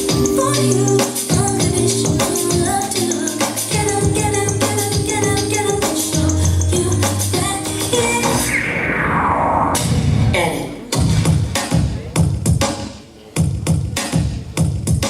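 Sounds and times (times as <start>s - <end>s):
upbeat pop music over speakers: 0.0s - 15.0s.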